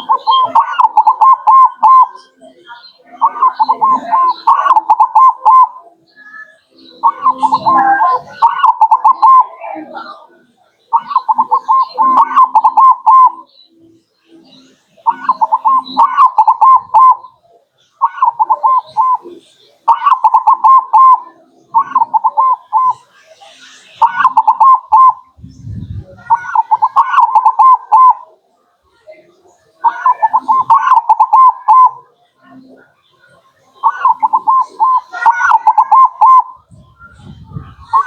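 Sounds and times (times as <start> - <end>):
dove cooing song: 0.0 - 28.5, 29.4 - 32.8, 33.8 - 38.0.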